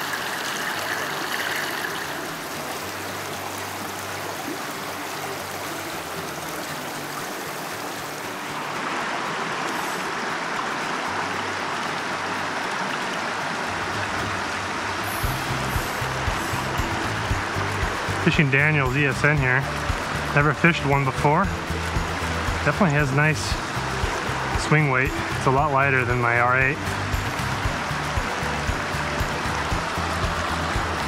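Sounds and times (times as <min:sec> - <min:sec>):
river water rushing over rocks: 0:00.0 - 0:31.0.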